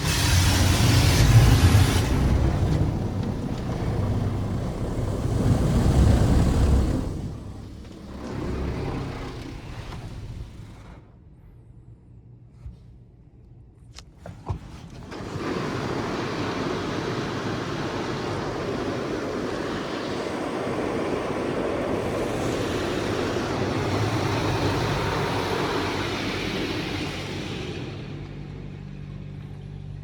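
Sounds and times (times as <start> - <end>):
high-pressure water spraying car: 0.0 - 10.9, 15.0 - 28.6.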